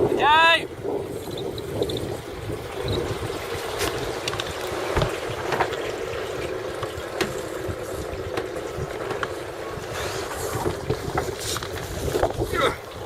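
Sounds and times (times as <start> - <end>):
water splashing along boat hull: 0.0 - 13.0
wind rumbling on microphone: 0.0 - 13.0.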